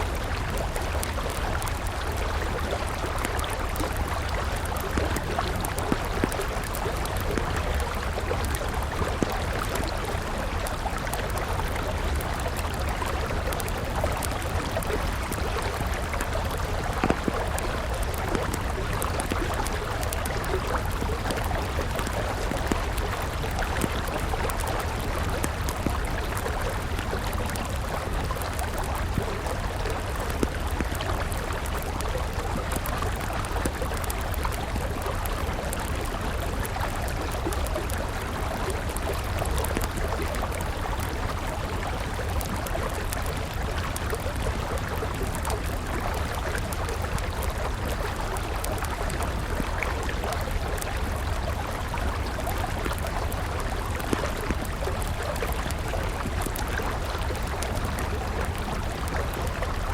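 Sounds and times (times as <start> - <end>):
campfire crackling and popping: 0.0 - 59.9
river flowing: 0.0 - 59.9.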